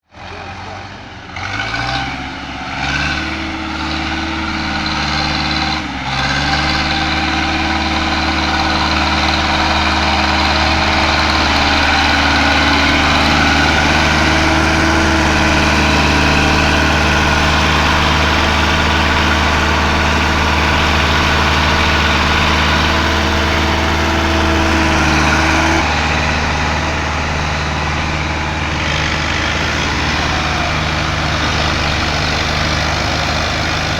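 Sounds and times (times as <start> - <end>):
tractor diesel engine revving: 0.0 - 33.9.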